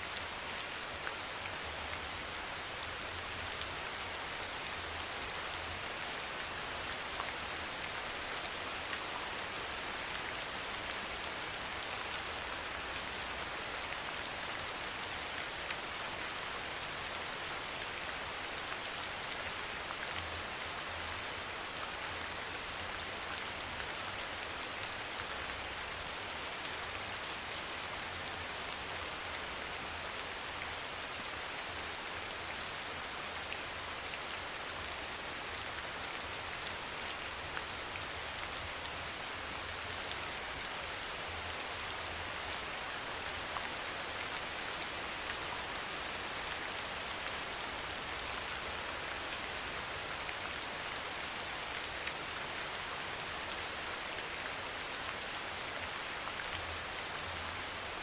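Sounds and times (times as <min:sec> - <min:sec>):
soft rain hiss: 0:00.0 - 0:58.0.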